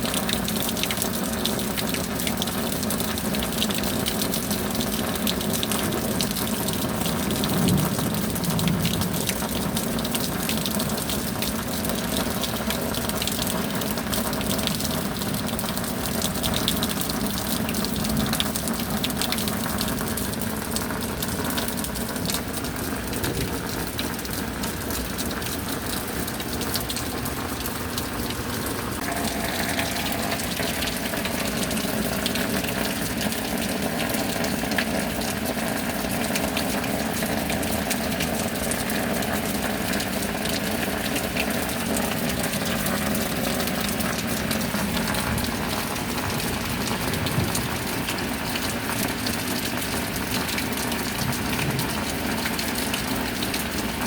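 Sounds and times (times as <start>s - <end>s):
rain pattering: 0.0s - 54.0s
water pouring and splashing: 0.0s - 54.0s.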